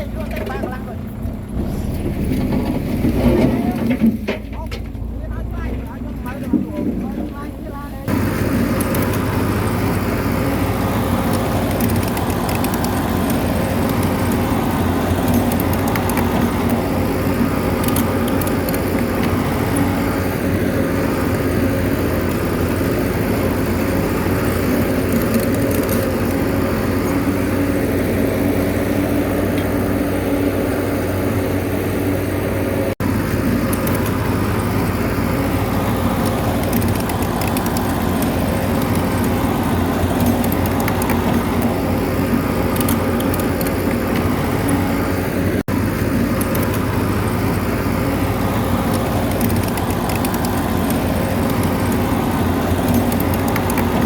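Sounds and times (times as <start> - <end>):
bulldozer engine running: 0.0 - 54.0
mechanical clatter: 1.4 - 30.0, 33.0 - 54.0.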